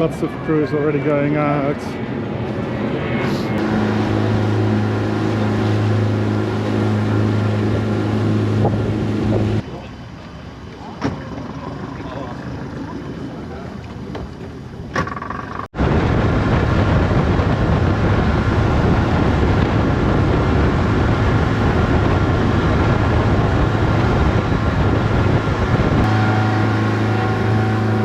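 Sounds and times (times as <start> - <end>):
rushing wind: 0.0 - 28.0
motorboat engine drone: 3.1 - 28.0.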